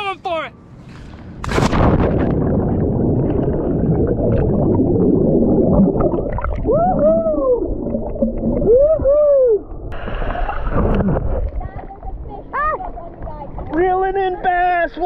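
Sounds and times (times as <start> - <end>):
muffled underwater swimming rumble: 1.6 - 13.7.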